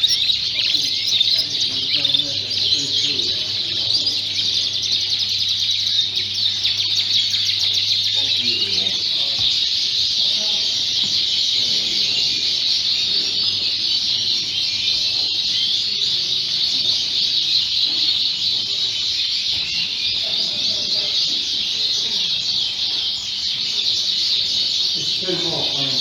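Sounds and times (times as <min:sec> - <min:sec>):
canaries singing and chirping: 0:00.0 - 0:26.0.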